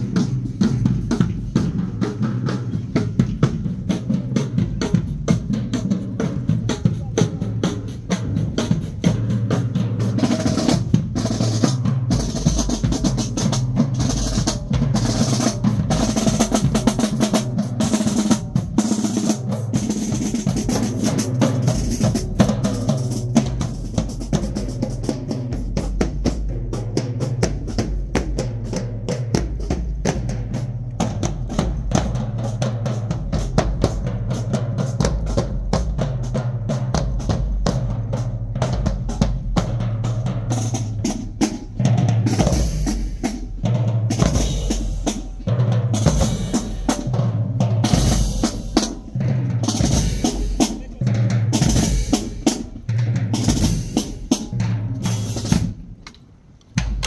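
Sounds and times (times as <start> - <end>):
bass drums: 0.0 - 56.0, 56.7 - 57.0
snare drum strokes and rolls: 0.0 - 56.1, 56.7 - 57.0.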